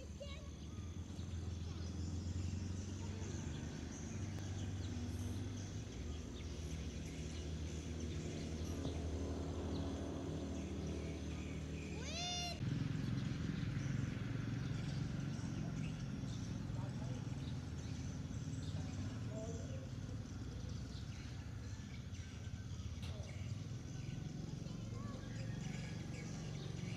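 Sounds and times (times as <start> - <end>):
low outdoor background hum: 0.0 - 26.9.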